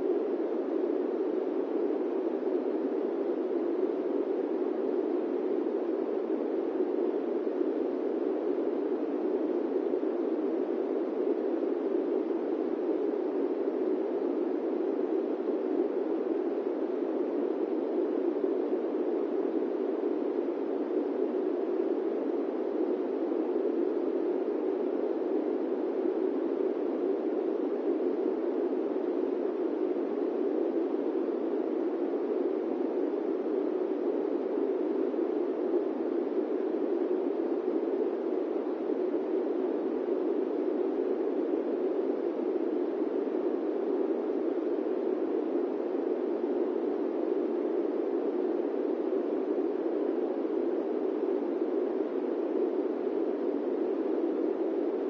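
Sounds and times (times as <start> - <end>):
airplane cabin white noise: 0.0 - 55.0.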